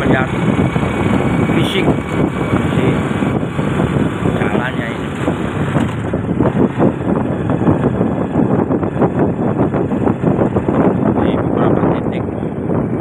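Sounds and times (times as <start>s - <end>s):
vehicle road noise: 0.0s - 13.0s
wind buffeting microphone: 0.0s - 13.0s.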